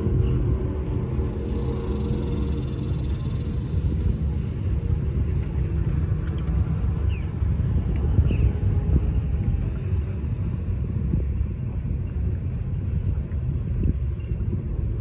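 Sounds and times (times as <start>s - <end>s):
powerboat engines rumbling: 0.0s - 15.0s.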